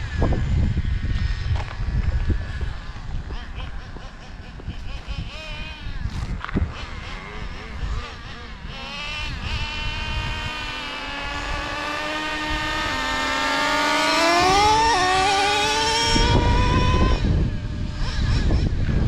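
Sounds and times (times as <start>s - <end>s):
small two-stroke engine buzzing: 0.0s - 19.0s
wind rumble on microphone: 0.0s - 19.0s.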